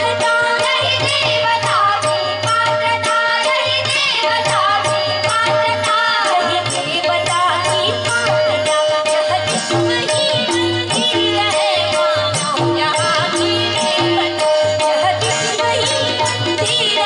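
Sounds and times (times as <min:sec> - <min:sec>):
harmonium held note: 0:00.0 - 0:17.0
women singing: 0:00.0 - 0:17.0.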